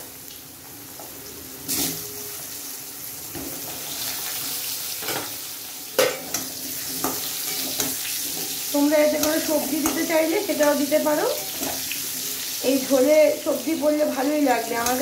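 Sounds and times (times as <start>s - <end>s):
potato wedges sizzling in oil: 0.0s - 15.0s.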